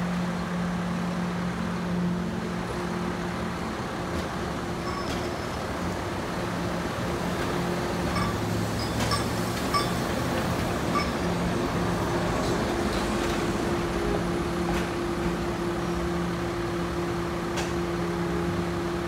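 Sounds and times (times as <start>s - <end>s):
bus and trolley pulling away: 0.0s - 19.0s
constant mechanical hum: 0.0s - 19.0s.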